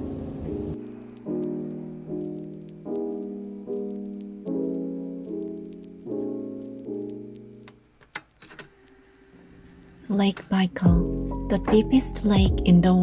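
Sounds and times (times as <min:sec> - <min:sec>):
soft piano chords: 0:00.0 - 0:08.0, 0:09.0 - 0:13.0.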